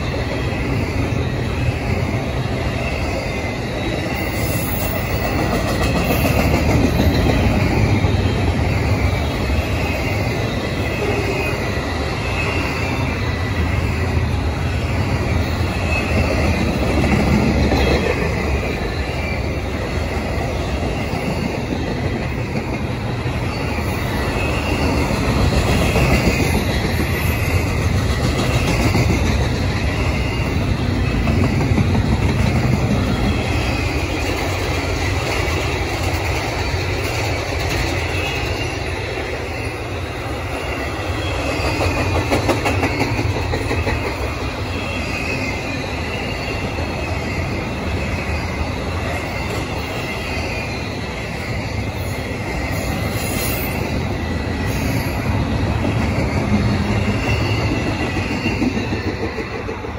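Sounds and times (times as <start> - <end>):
freight train wheels clattering on rail: 0.0 - 59.9.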